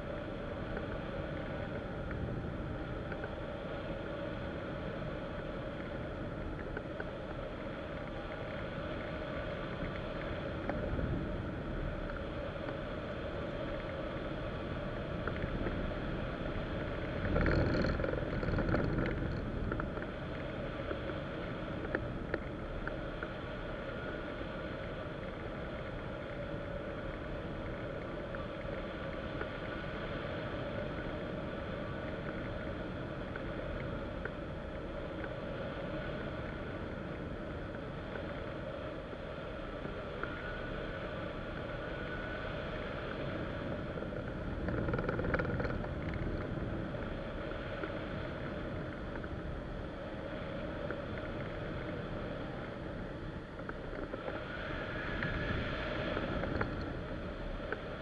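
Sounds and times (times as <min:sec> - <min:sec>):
rush of airflow over wing: 0:00.0 - 0:58.0.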